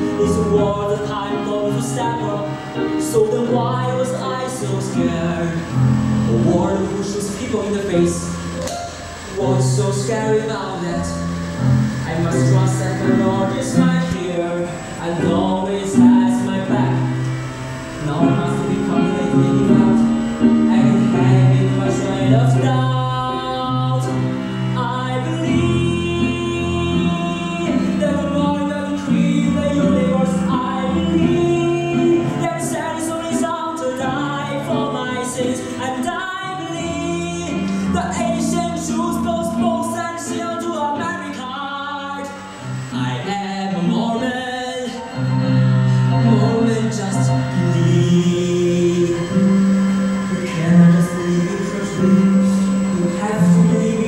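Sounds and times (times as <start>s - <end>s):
instrumental accompaniment: 0.0s - 54.0s
man singing: 0.0s - 54.0s.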